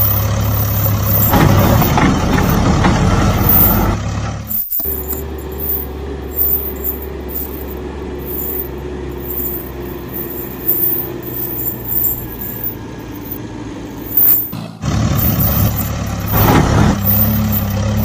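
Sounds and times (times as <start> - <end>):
heavy vehicle engine rumbling: 0.0 - 18.0.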